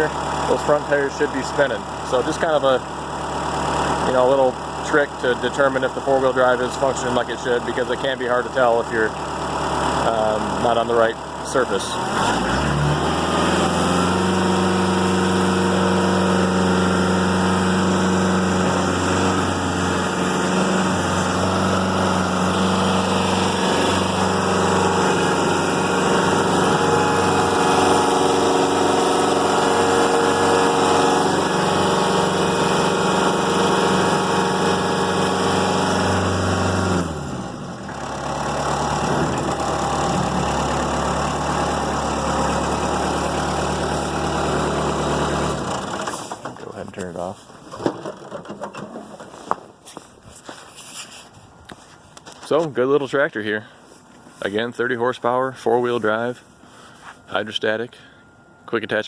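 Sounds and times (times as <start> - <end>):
diesel tractor engine running: 0.0 - 50.1.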